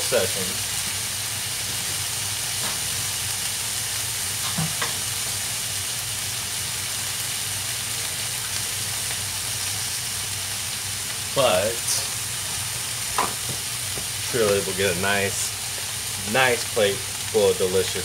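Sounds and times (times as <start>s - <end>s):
bacon sizzling in a skillet: 0.0s - 18.0s.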